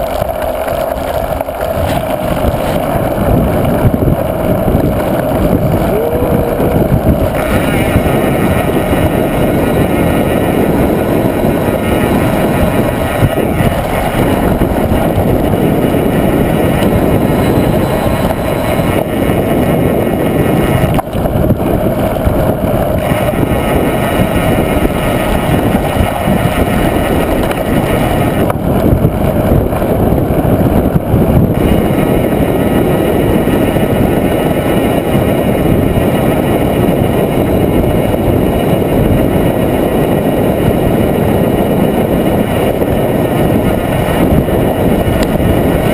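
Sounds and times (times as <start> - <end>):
bike rolling noise: 0.0 - 45.9
wind rushing over microphone: 0.0 - 45.9.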